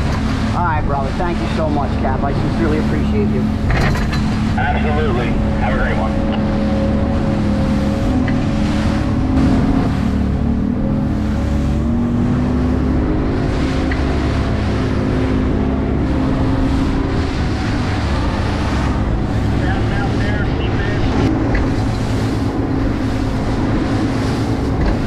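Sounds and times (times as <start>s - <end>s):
boat engine running: 0.0s - 25.0s
water splashing along hull: 0.0s - 25.0s.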